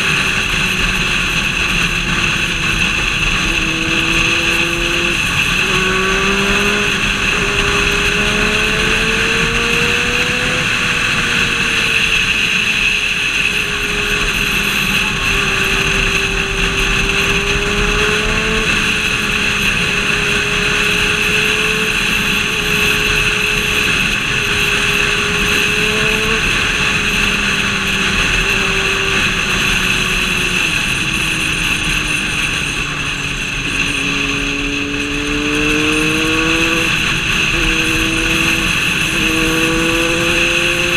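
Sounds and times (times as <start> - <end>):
vehicle engine running: 0.0 - 40.9
wind and road noise: 0.0 - 40.9.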